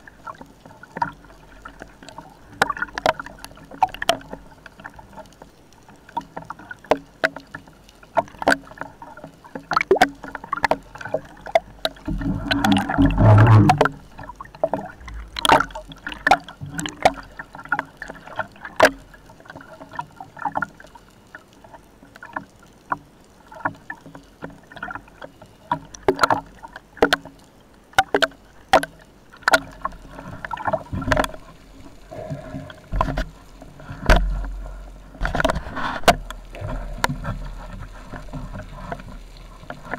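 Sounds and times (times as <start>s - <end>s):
low water hiss: 0.0s - 39.9s
rush of water: 0.0s - 39.9s
underwater clicks and knocks: 0.0s - 39.9s.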